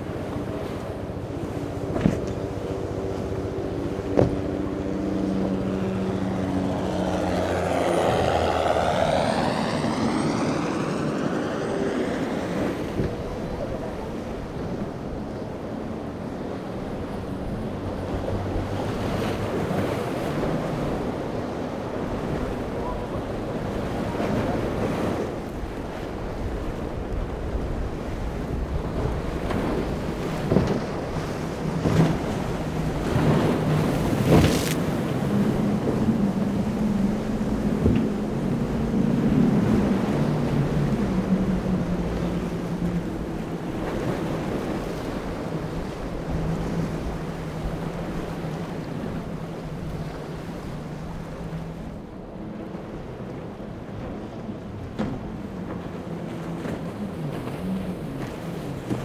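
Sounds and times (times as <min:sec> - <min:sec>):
powerboat engines passing: 0:00.0 - 0:59.0
rushing water and spray: 0:00.0 - 0:59.0
waves washing: 0:00.0 - 0:59.0
wind buffeting microphone: 0:00.0 - 0:59.0.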